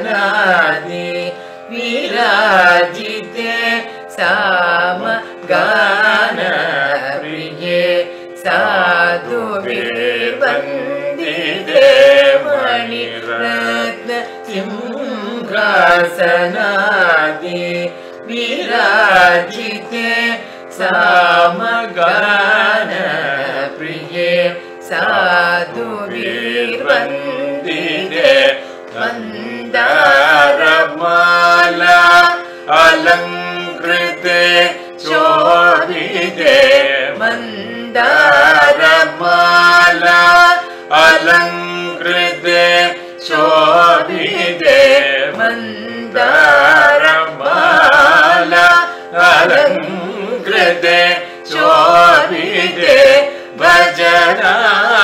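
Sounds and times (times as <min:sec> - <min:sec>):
ornamented melody with sliding notes: 0:00.0 - 0:55.0.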